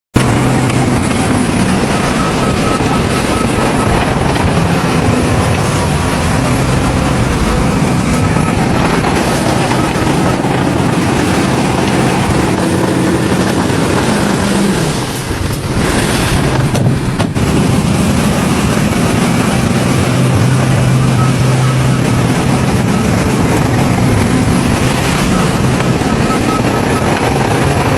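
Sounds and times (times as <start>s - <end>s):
heavy diesel machinery running: 0.1s - 27.9s.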